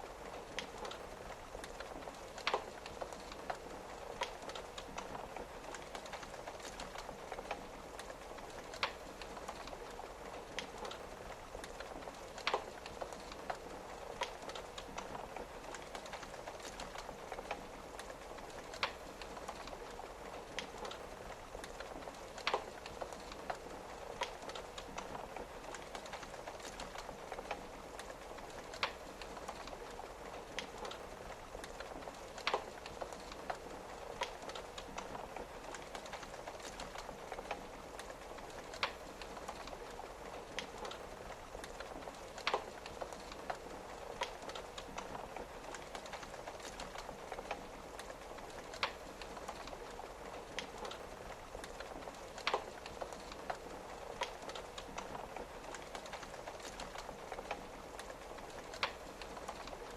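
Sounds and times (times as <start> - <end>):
rain on a window: 0.0 - 59.9
wood fire crackling: 0.0 - 59.9.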